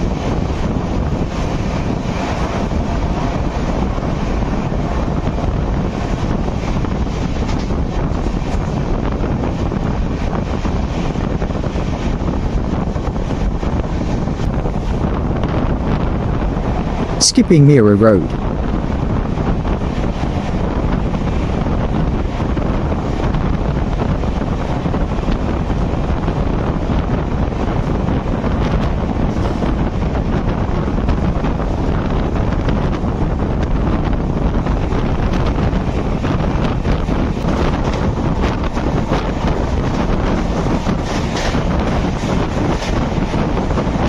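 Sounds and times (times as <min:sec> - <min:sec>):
train rumbling on track: 0:00.0 - 0:17.4, 0:18.0 - 0:44.0
wind noise on microphone: 0:00.0 - 0:44.0.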